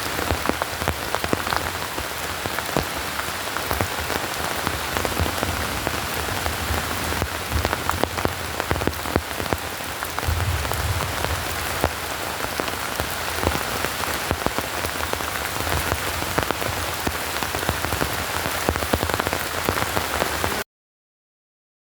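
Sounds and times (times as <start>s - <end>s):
rain falling: 0.0s - 20.6s.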